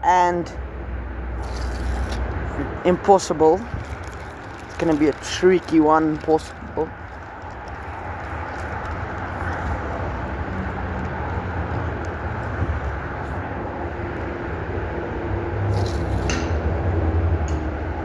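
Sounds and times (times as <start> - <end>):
faint engine hum: 0.0 - 18.0
road traffic rumble: 0.0 - 18.0
vehicle approaching: 0.0 - 18.0.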